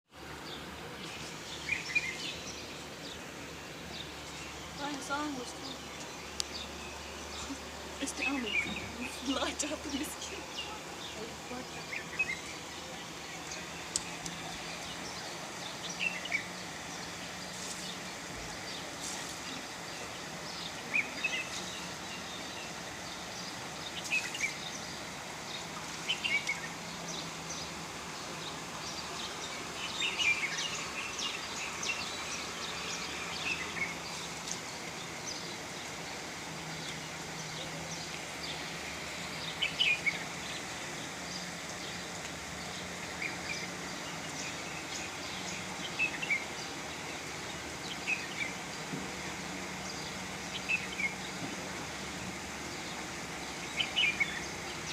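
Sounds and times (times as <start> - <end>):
birds chirping: 0.1 - 54.9
steady background hiss: 0.1 - 54.9.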